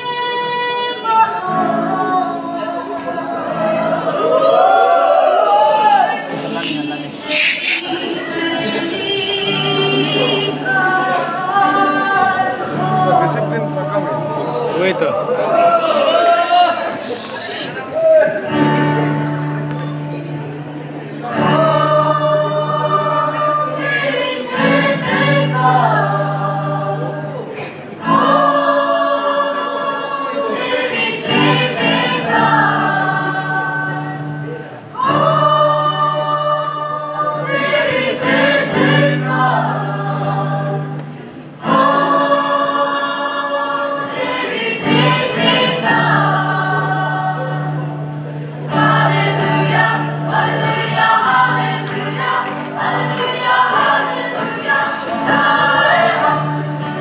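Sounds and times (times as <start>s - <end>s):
choir singing gospel: 0.0s - 19.5s, 20.7s - 57.0s.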